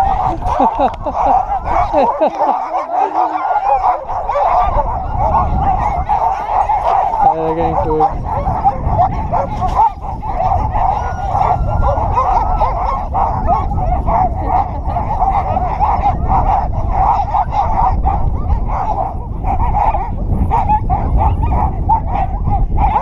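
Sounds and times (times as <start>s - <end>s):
sled dogs yelping and whining: 0.0s - 23.0s.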